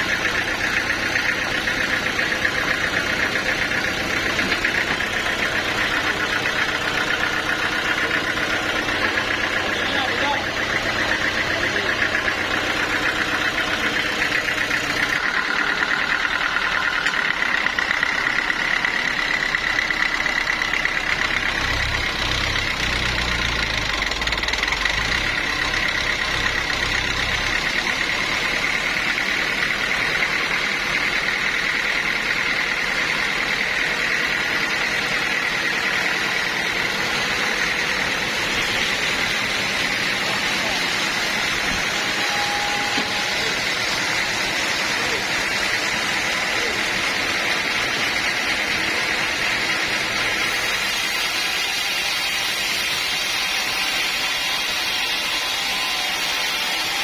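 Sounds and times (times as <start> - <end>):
band sawmill sawing a log: 0.0 - 57.0.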